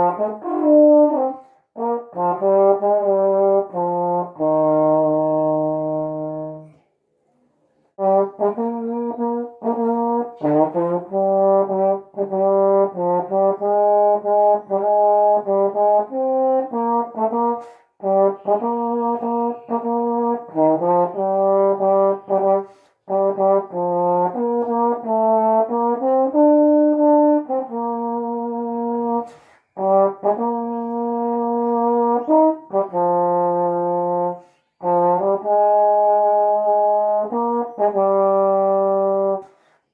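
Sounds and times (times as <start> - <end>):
solo trombone playing a hymn: 0.0 - 6.7, 8.0 - 39.7.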